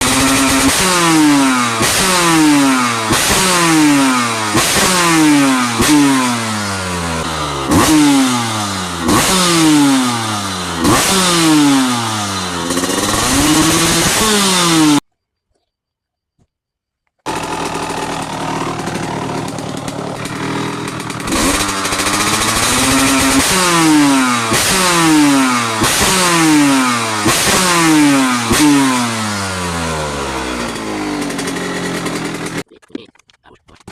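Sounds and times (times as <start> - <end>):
dirt bike engine revving: 0.0 - 15.0, 17.3 - 32.7.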